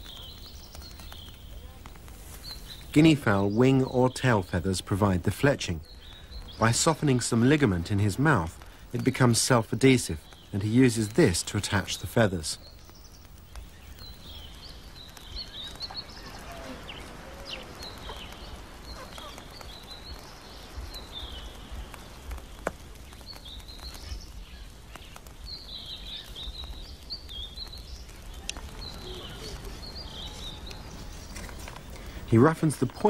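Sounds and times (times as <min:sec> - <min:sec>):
birds warbling: 0:00.0 - 0:33.0.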